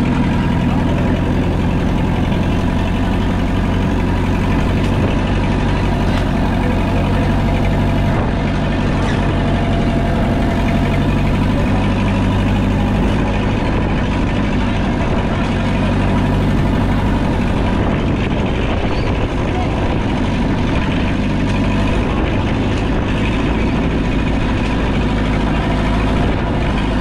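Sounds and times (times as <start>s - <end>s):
constant rushing noise: 0.0s - 27.0s
diesel engine running: 0.0s - 27.0s.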